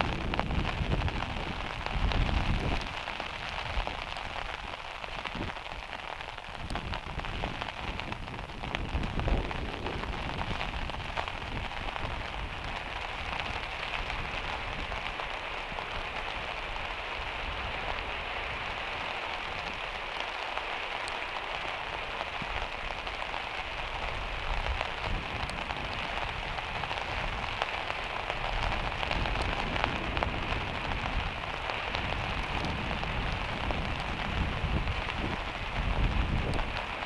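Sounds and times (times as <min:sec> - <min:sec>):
heavy rain on a metal roof: 0:00.0 - 0:37.0.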